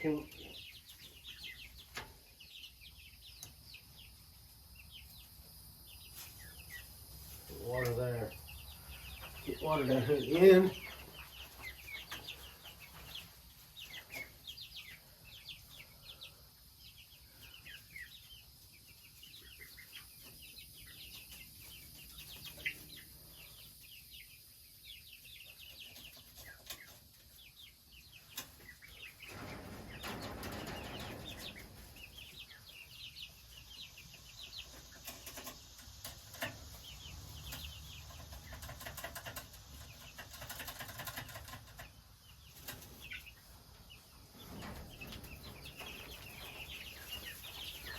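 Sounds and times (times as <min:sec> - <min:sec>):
chicks cheeping: 0:00.0 - 0:47.9.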